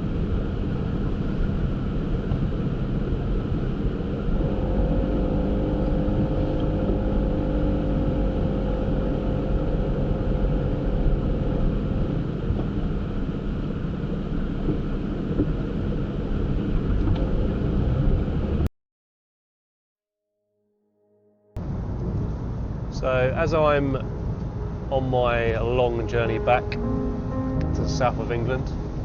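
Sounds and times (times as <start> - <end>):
engine tone: 0.0 - 15.3, 21.0 - 29.0
van engine and road rumble: 0.0 - 18.7, 21.6 - 29.0.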